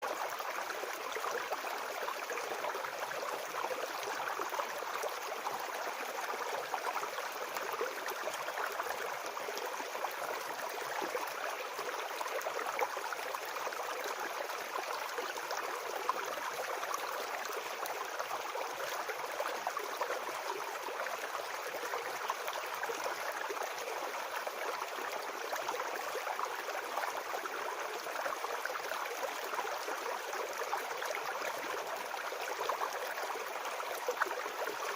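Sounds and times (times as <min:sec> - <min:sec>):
brook babbling over stones: 0:00.0 - 0:34.9.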